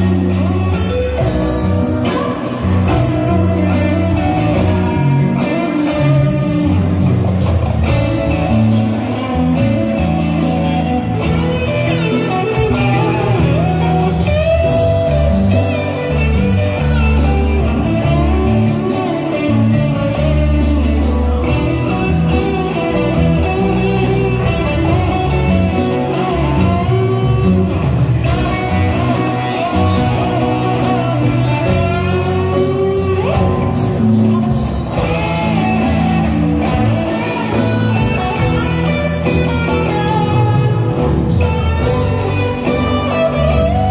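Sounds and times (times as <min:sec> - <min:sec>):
electric guitar lines: 0:00.0 - 0:43.9
live rock band playing: 0:00.0 - 0:43.9.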